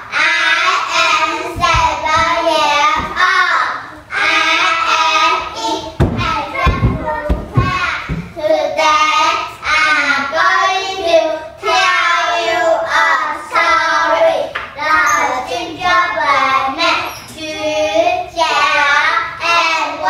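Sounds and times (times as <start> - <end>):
children singing together: 0.0 - 20.0.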